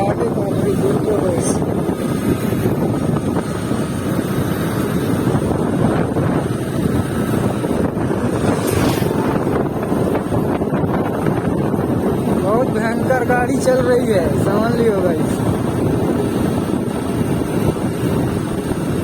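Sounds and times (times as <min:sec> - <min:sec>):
motorcycle running: 0:00.0 - 0:19.0
road noise: 0:00.0 - 0:19.0
wind on microphone: 0:00.0 - 0:19.0.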